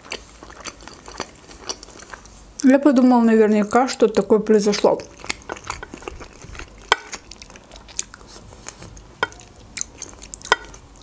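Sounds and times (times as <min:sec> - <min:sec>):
chewing food: 0:00.0 - 0:02.4, 0:03.6 - 0:11.0.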